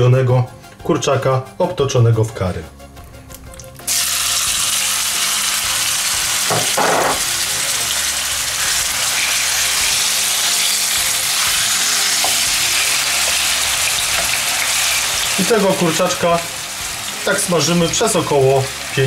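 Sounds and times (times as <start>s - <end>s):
chicken sizzling in hot oil: 3.7s - 19.0s.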